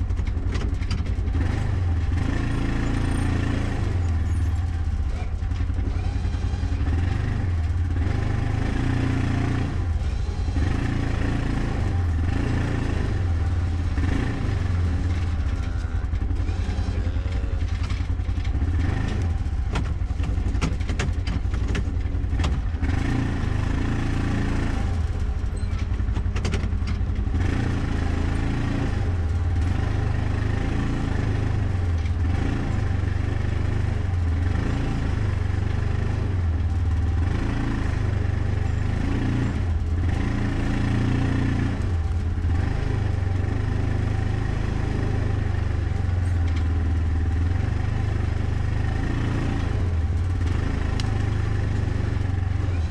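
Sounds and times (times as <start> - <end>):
utility vehicle engine running: 0.0 - 52.9.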